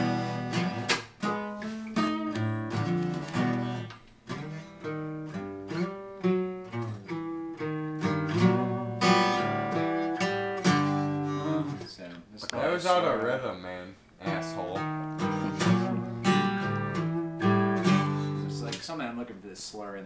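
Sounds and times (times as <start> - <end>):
acoustic guitar playing: 0.0 - 12.0, 12.6 - 18.9.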